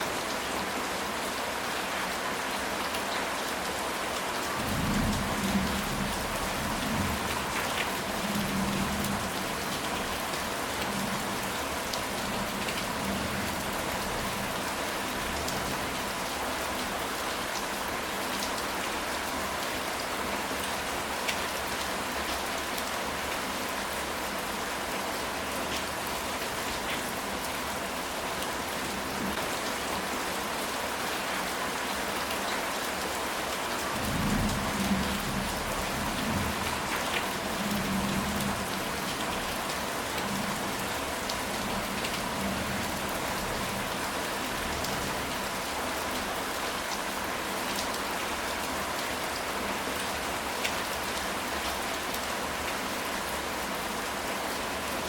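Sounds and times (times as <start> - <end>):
rain on a tile roof: 0.0 - 55.0.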